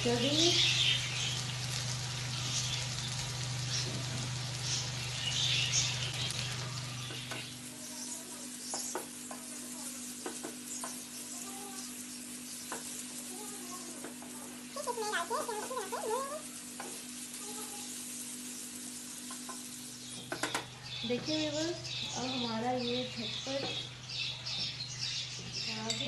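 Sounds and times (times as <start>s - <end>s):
fish sizzling in a frying pan: 0.0s - 24.1s.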